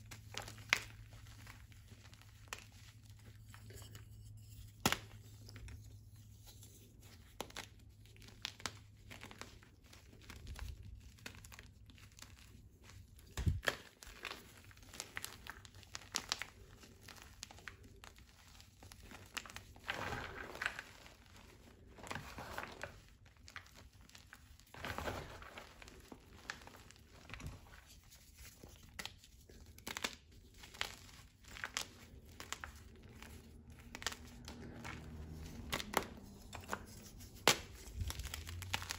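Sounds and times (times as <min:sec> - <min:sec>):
hands crushing chalk: 0:00.0 - 0:38.9.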